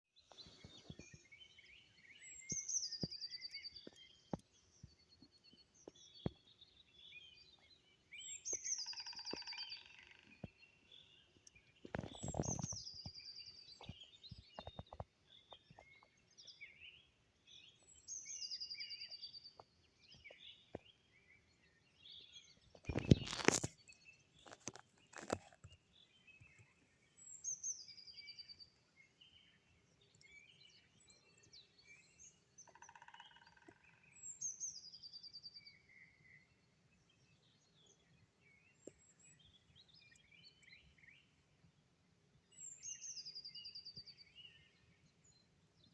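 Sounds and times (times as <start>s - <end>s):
songbirds singing and chirping: 0.1s - 45.9s.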